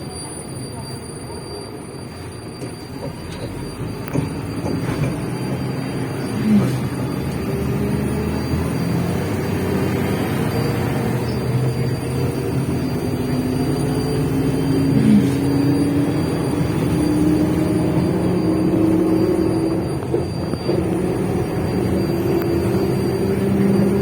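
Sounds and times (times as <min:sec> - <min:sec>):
bus engine drone: 0:00.0 - 0:24.0
road noise: 0:00.0 - 0:24.0.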